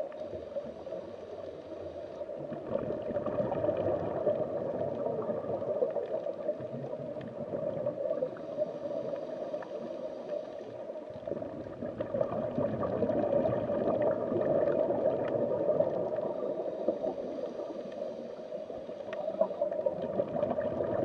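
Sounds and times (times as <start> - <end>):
underwater bubbling and gurgling: 0.0 - 21.0.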